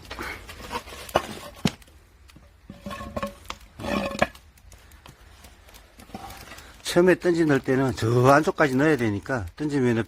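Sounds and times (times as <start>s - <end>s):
wood scraping: 0.0s - 9.3s
firewood knocking and clattering: 0.0s - 10.0s.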